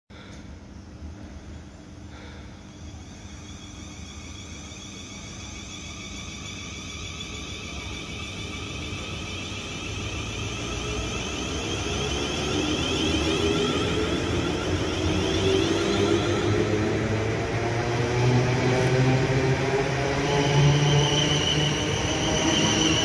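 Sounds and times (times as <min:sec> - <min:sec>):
train low rumble: 0:00.1 - 0:23.0
train high whine: 0:00.2 - 0:23.0.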